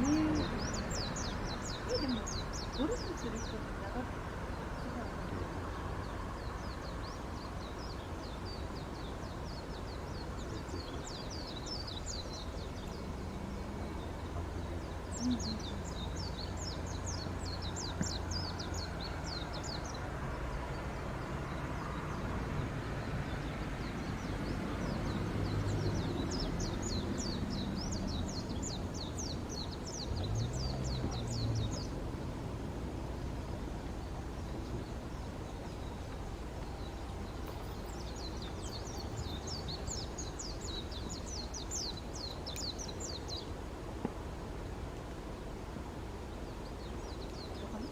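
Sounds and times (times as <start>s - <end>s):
bird chirping trills: 0.0s - 32.0s, 33.2s - 43.6s
steady low rumble: 0.0s - 47.9s.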